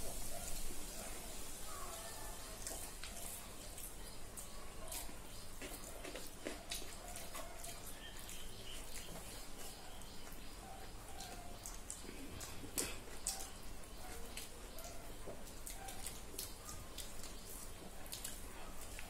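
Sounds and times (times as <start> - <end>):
fingers mixing food on steel plates: 1.8 - 19.0
wet chewing and lip smacks: 2.0 - 19.0.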